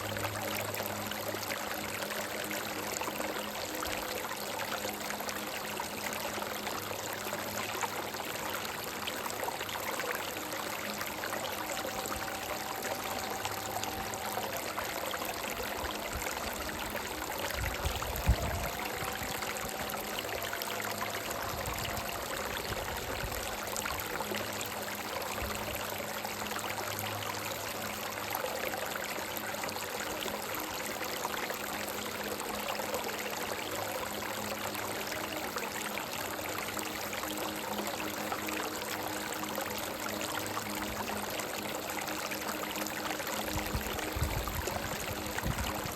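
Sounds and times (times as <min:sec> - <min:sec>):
soft background melody: 0:00.0 - 0:45.9
stream running over rocks: 0:00.0 - 0:45.9.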